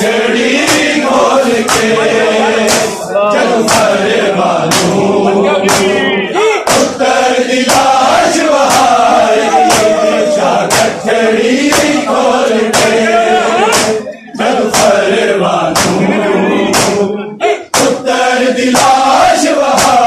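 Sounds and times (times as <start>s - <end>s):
men chanting in unison: 0.0s - 20.0s
palms slapping chests: 0.1s - 20.0s.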